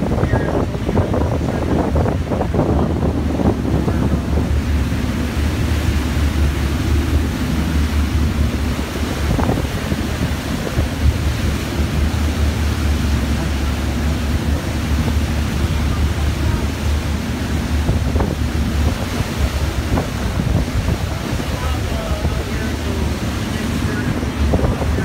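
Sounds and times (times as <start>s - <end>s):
churning water rushing: 0.0s - 25.0s
steady low rumble: 0.0s - 25.0s
wind buffeting microphone: 0.0s - 25.0s.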